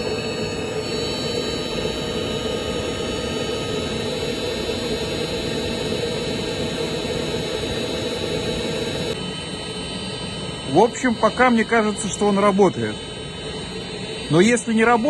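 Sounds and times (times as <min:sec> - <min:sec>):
engine preheater roaring: 0:00.0 - 0:15.0.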